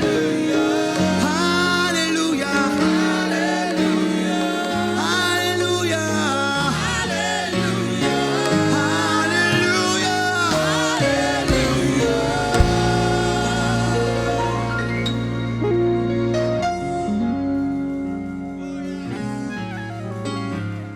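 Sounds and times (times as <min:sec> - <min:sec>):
gospel singing: 0:00.0 - 0:20.8
sustained keyboard chords: 0:00.0 - 0:20.9.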